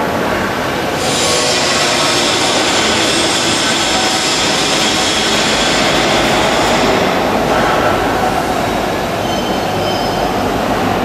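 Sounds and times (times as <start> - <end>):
loud rushing machine noise: 0.0 - 9.2.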